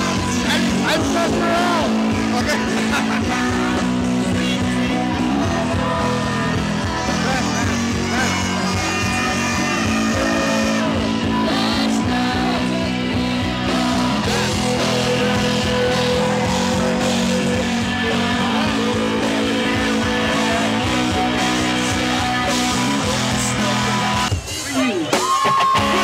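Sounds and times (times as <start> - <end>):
electric guitar: 0.0 - 26.0
person singing: 0.0 - 26.0.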